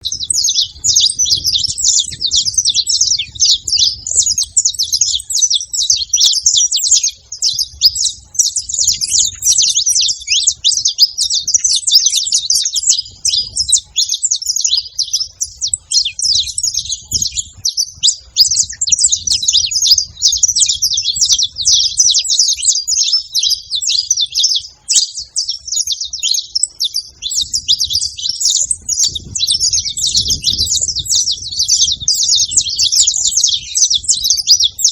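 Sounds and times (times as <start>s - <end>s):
finch singing: 0.0s - 34.9s.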